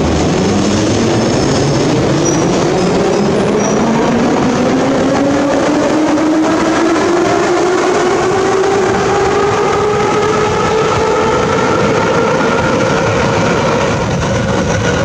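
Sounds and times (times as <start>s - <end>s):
train traction motors whining: 0.0s - 15.0s
wheels rumbling on rails: 0.0s - 15.0s.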